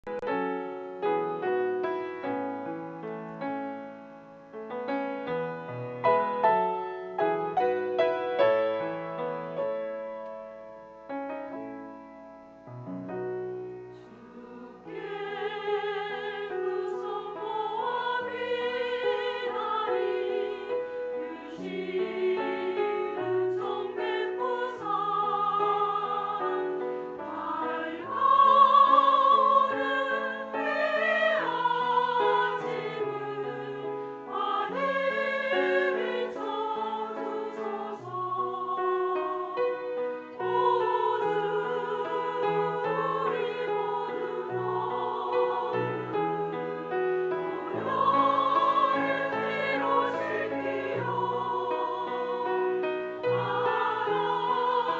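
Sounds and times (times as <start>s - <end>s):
piano notes and chords: 0.0s - 54.9s
women's choir singing a hymn: 5.2s - 9.8s, 13.8s - 54.9s.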